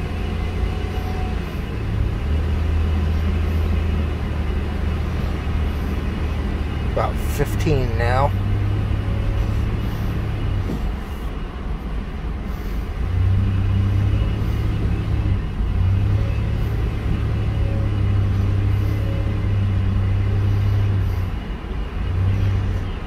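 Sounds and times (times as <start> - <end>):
truck engine droning in cab: 0.0 - 23.0.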